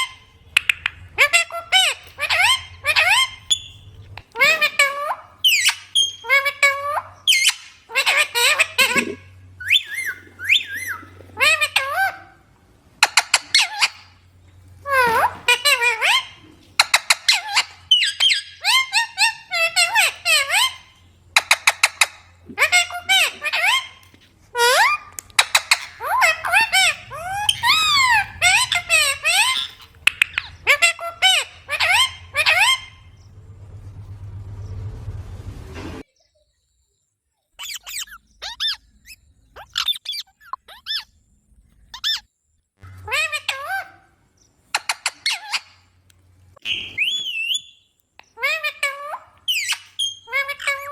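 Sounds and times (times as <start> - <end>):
parrot squawks and chirps: 0.0 - 33.4, 37.6 - 41.2, 41.8 - 50.9.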